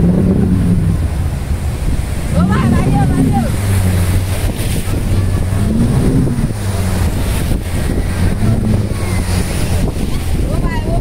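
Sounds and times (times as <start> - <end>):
breaking surf: 0.0 - 11.0
motorboat engine running: 0.0 - 11.0
water splashing against hull: 0.0 - 11.0
wind buffeting microphone: 0.0 - 11.0.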